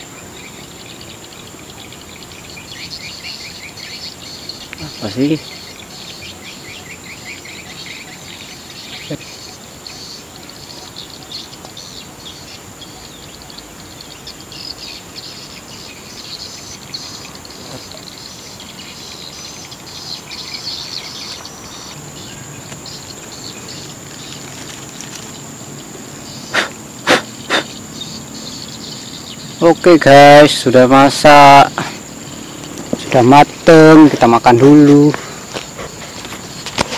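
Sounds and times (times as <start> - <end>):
insects chirping and buzzing: 0.0 - 36.9.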